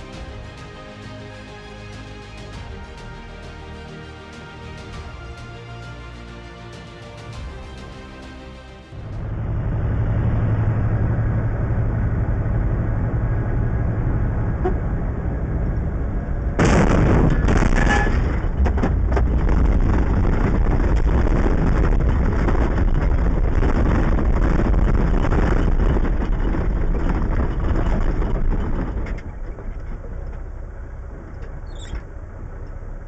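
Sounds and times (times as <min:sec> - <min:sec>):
sudden burst of noise: 0:00.0 - 0:29.3
vehicle engine and road rumble: 0:00.0 - 0:33.0.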